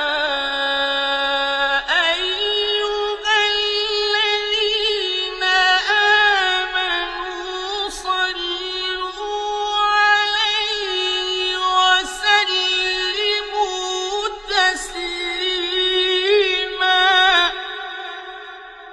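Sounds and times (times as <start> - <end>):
man chanting devotional verse: 0.0 - 18.9.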